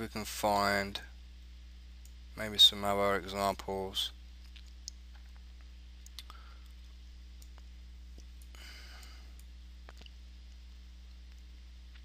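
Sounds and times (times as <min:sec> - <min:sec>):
low electrical hum: 0:00.0 - 0:12.0
soft hiss: 0:00.0 - 0:12.0.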